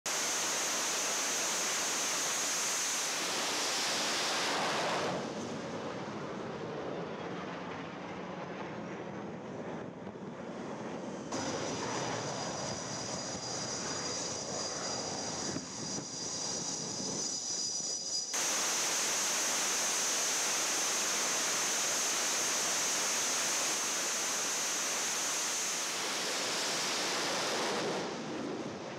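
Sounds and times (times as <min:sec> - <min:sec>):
jet engines at full power: 0:00.0 - 0:28.9.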